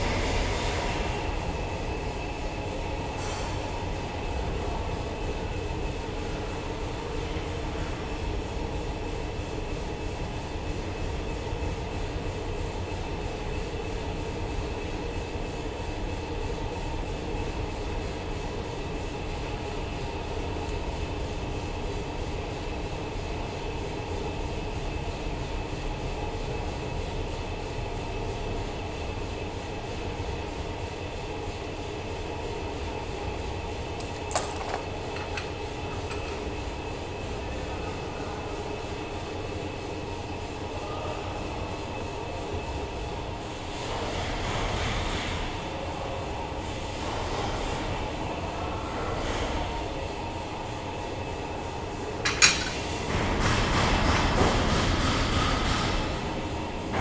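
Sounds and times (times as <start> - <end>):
low mechanical rumble and hum: 0.0 - 57.0.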